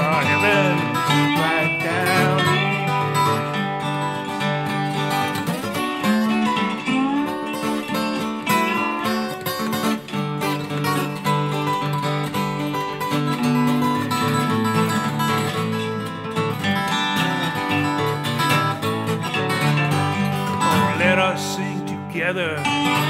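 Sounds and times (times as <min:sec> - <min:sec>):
fingerpicked acoustic guitar: 0:00.0 - 0:23.0
resonator guitar lead: 0:00.0 - 0:23.0.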